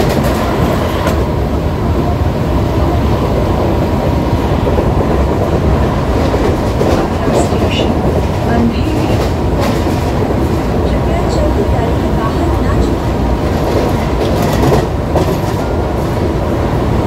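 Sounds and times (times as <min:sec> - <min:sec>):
train wheels rumbling and rattling: 0:00.0 - 0:17.0.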